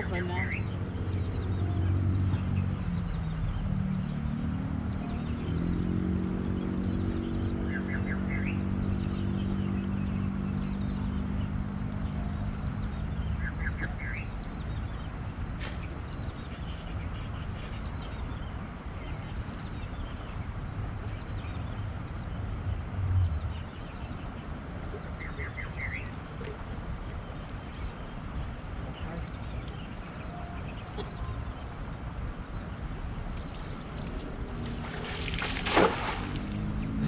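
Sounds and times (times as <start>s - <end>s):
bird chirping: 0.0s - 37.0s
low engine hum: 0.0s - 37.0s.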